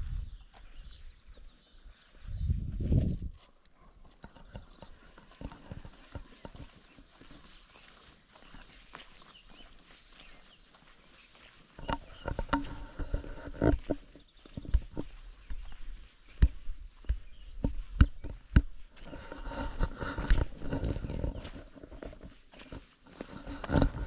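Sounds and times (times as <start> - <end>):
footsteps walking: 0.0 - 24.0.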